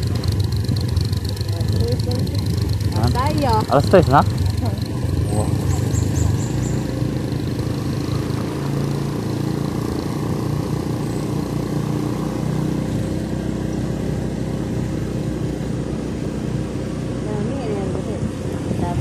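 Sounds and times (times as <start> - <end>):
road and wind noise: 0.0 - 19.0
small motorcycle engine running: 0.0 - 19.0.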